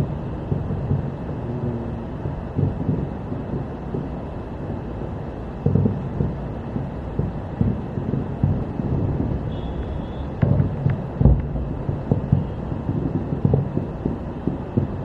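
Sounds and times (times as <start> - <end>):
distant fireworks booming: 0.0 - 15.0
wind rumble on microphone: 0.0 - 15.0.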